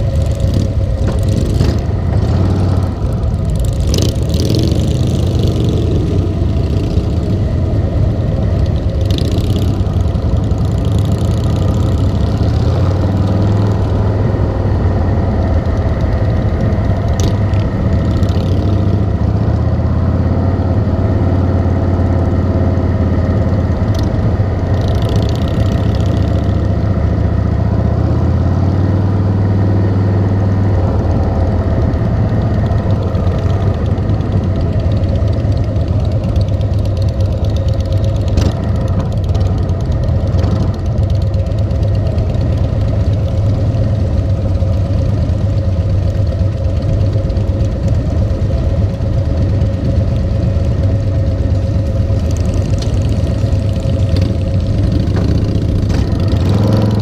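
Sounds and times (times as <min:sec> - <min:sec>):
motorcycle engine idling: 0:00.0 - 0:27.8, 0:30.1 - 0:57.0.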